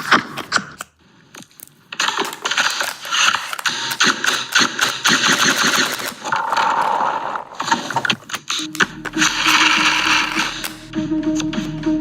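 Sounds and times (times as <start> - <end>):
toy blaster mechanical clicks: 0.0 - 6.9, 7.5 - 10.9.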